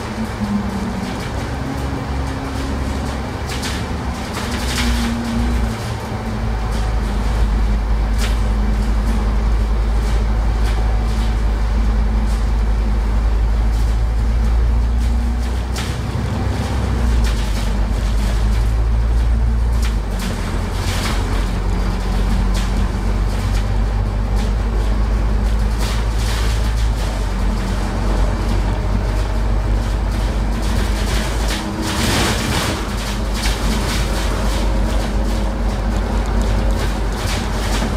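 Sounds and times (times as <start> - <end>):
bus engine drone: 0.0 - 37.9
steady hum: 0.0 - 37.9.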